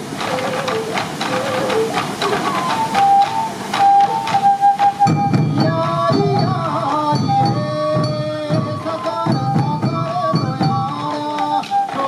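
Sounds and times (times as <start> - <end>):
bamboo flute melody: 0.0 - 12.0
taiko drums beating: 0.0 - 12.0.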